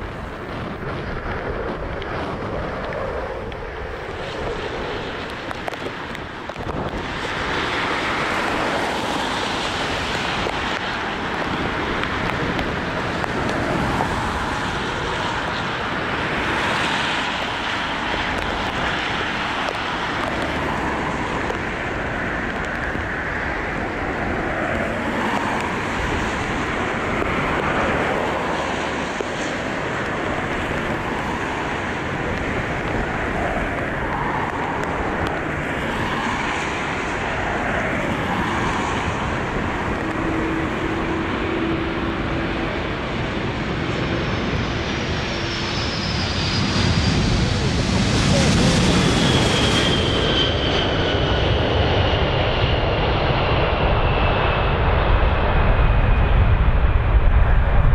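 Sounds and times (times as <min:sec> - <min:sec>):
jet engines rumbling: 0:00.0 - 0:57.9
wind buffeting microphone: 0:00.0 - 0:57.9.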